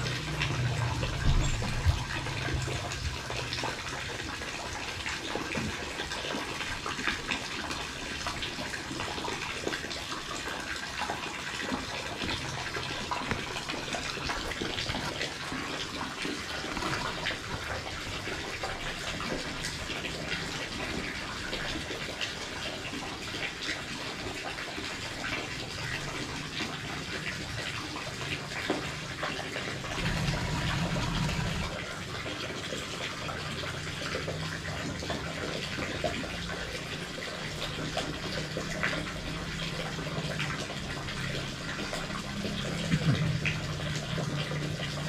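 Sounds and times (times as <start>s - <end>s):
water running and splashing: 0.0s - 45.0s.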